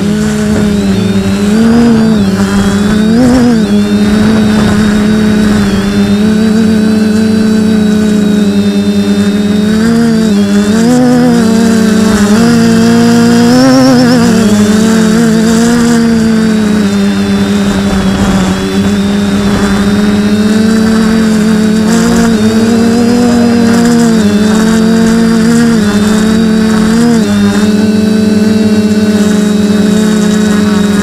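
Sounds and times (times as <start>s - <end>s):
quadcopter motors humming: 0.0s - 31.0s.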